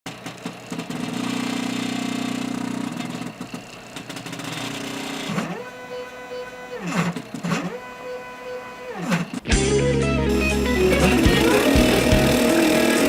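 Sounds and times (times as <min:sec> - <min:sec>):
machine motors whining: 0:00.1 - 0:13.0.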